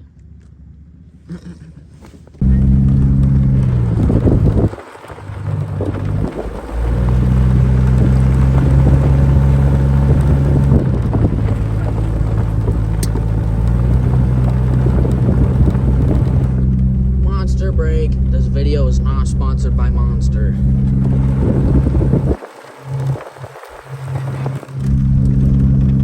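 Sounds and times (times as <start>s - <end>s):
car engine running: 0.0s - 26.0s
road noise: 0.0s - 26.0s.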